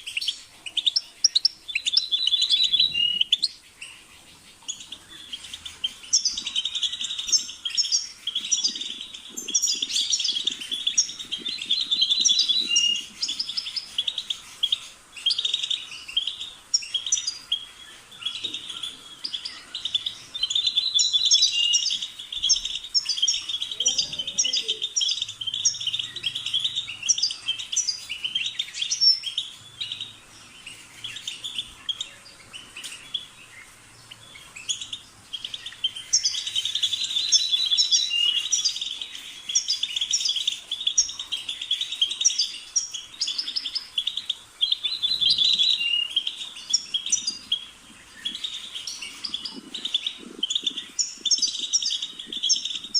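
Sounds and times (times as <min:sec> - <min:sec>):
goldfinch twittering: 0:00.0 - 0:52.9.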